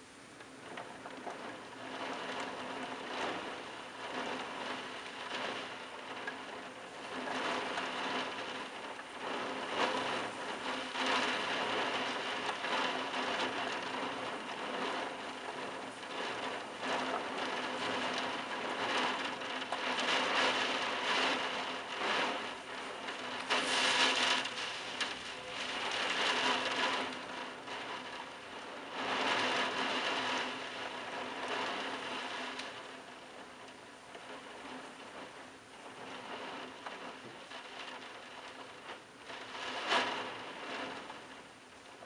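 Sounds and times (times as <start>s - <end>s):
heavy rain on roof tiles: 0.0s - 42.0s.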